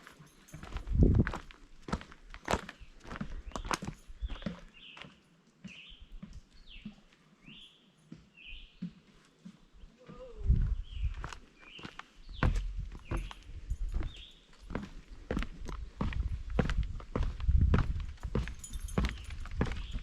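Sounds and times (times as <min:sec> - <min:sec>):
footsteps of people walking: 0:00.0 - 0:20.0.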